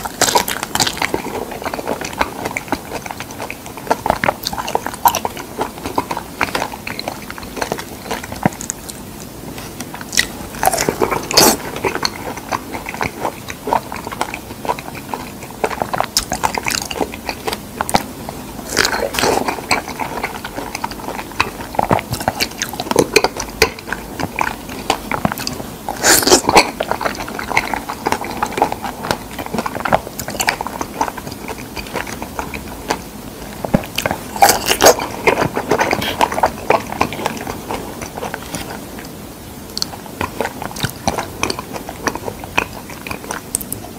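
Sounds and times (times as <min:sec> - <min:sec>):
person chewing: 0:00.0 - 0:43.9.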